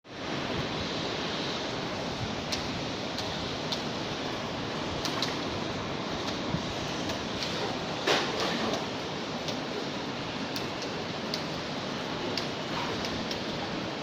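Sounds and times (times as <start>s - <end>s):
floodwater rushing: 0.1s - 14.0s.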